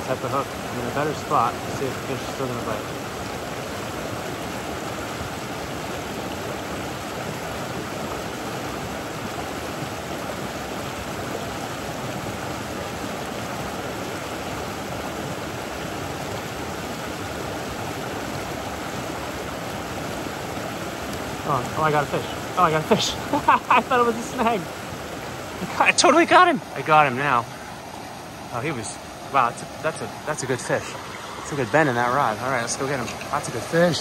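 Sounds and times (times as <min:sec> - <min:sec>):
creek water flowing: 0:00.0 - 0:34.0.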